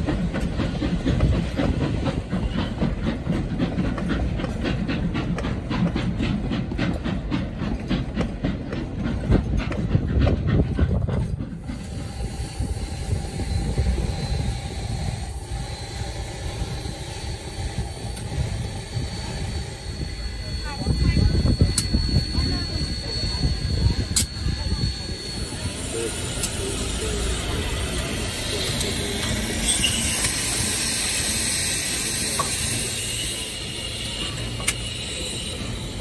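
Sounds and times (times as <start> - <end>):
steam locomotive hissing: 0.0 - 36.0
steel wheels clicking over rail joints: 0.0 - 36.0
train cars rumbling: 0.0 - 36.0.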